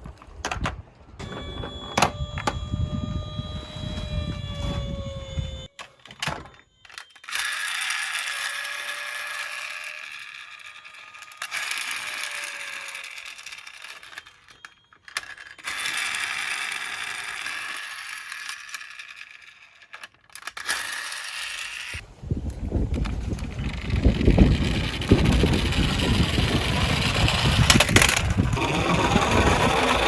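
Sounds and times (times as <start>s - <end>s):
toy cars whirring on hard surface: 1.2s - 22.0s, 22.9s - 30.0s.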